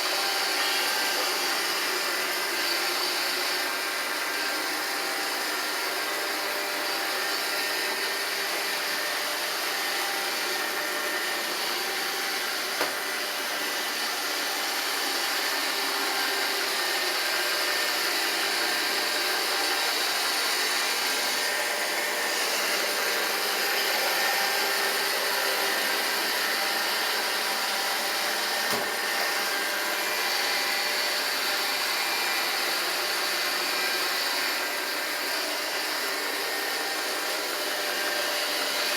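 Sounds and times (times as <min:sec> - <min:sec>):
robot vacuum motor whine: 0:00.0 - 0:38.9.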